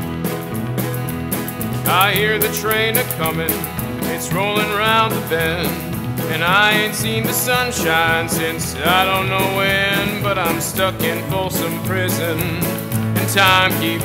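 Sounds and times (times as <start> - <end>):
country bluegrass band music: 0.0 - 14.0.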